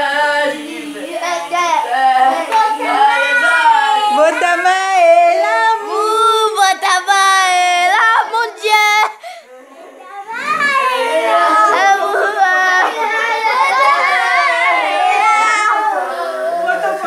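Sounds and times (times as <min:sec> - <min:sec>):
group singing birthday song: 0:00.0 - 0:17.0.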